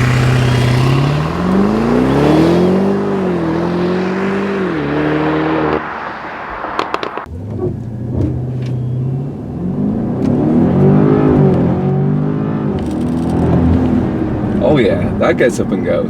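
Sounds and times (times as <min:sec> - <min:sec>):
car engine revving and launching: 0:00.0 - 0:14.6.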